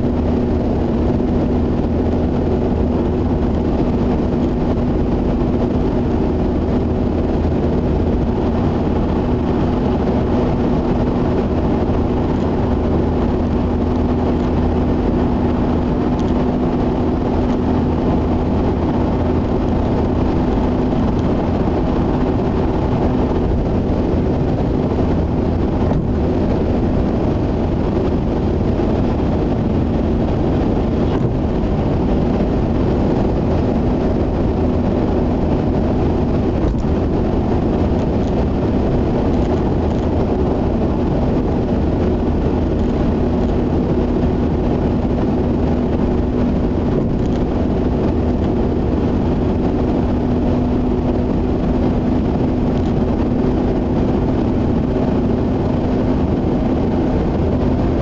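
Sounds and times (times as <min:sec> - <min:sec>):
engine hum: 0:00.0 - 0:58.0
tyre and road noise: 0:00.0 - 0:58.0.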